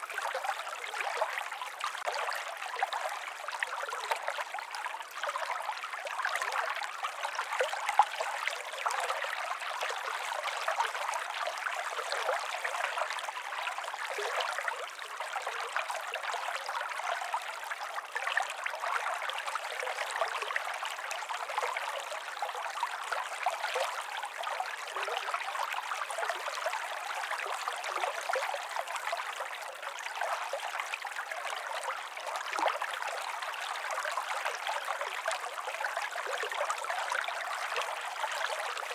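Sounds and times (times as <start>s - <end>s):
small stream trickling: 0.0s - 38.9s.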